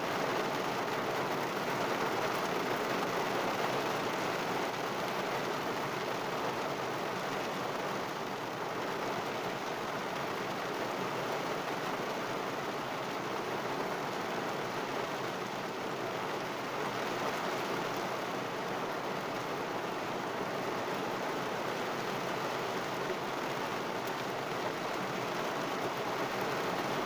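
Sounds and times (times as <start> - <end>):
heavy rain on car roof: 0.0 - 27.0.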